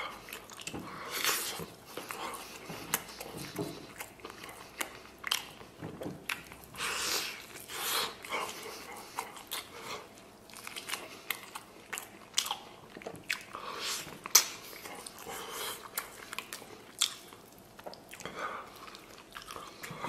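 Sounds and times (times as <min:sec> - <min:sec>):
man chewing meat: 0:00.0 - 0:20.0.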